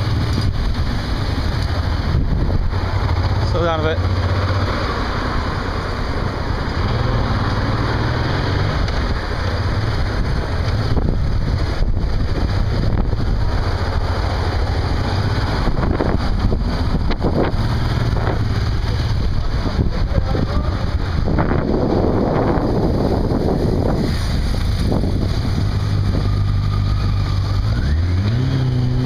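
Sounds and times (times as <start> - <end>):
road and traffic noise: 0.0 - 29.0
wind buffeting microphone: 0.0 - 29.0.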